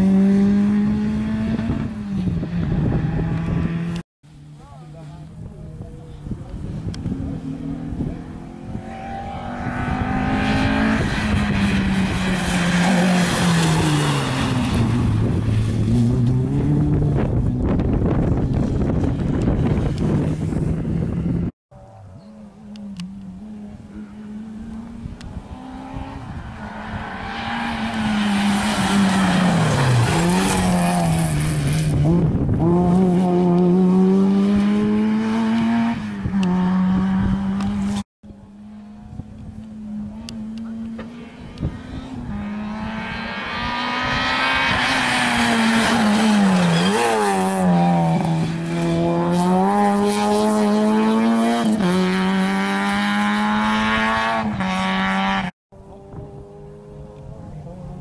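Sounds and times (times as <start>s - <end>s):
rally car engines at high revs: 0.0s - 4.0s, 6.5s - 58.0s.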